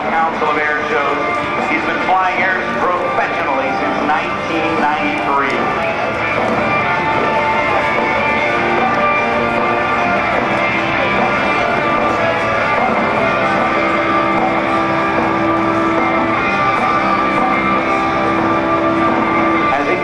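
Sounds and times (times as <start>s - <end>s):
guitar music over loudspeakers: 0.0s - 20.0s.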